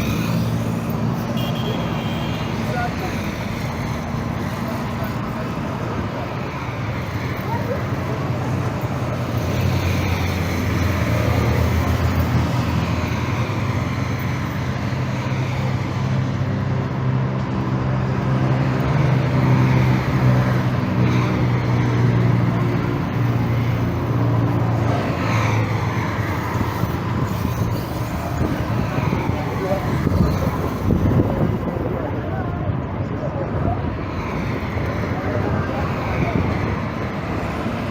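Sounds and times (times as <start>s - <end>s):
vehicles passing: 0.0s - 37.9s.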